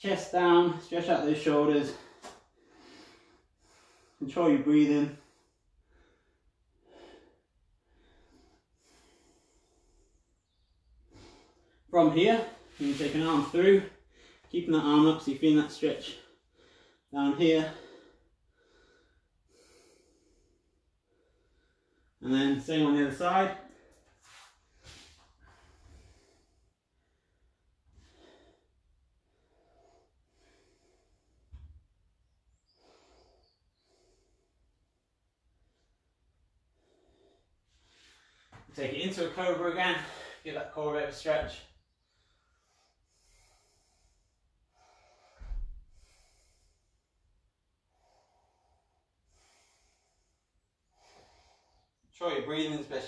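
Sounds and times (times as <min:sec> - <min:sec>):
man breathing slowly: 0:01.9 - 0:04.2, 0:05.1 - 0:14.6, 0:16.1 - 0:22.2, 0:23.6 - 0:38.8, 0:39.9 - 0:40.5, 0:41.8 - 0:52.2.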